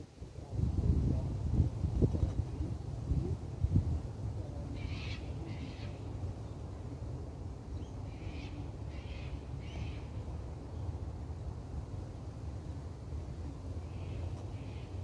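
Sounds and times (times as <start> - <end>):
low wind rumble: 0.0 - 15.0.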